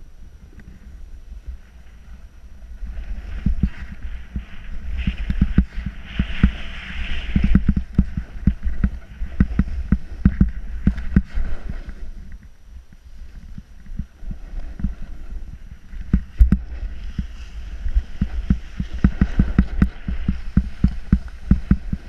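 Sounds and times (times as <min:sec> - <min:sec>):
wind rumble on microphone: 0:00.0 - 0:22.0
snowboard scraping over snow: 0:00.8 - 0:12.3, 0:13.0 - 0:22.0.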